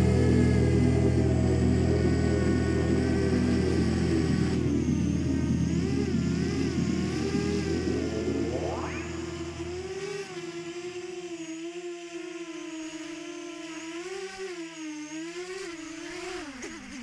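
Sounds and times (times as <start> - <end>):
sharp rising whine: 0.0 - 15.8
drone motors whirring: 0.0 - 17.0.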